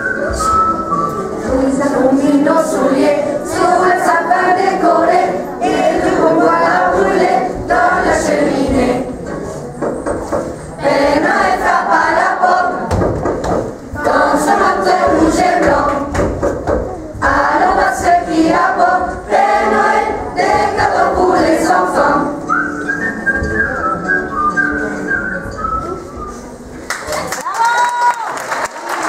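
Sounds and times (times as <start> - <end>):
children's choir singing: 0.0 - 25.5.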